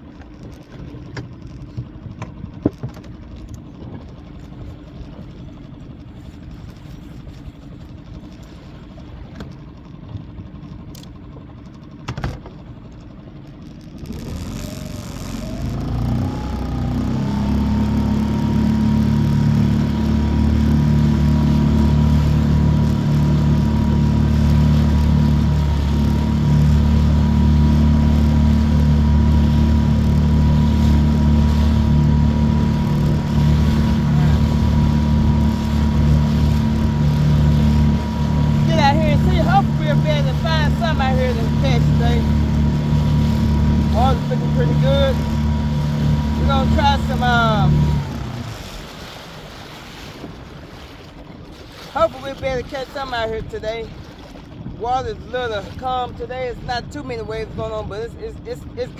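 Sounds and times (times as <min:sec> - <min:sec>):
boat motor speeding up: 0:00.0 - 0:58.9.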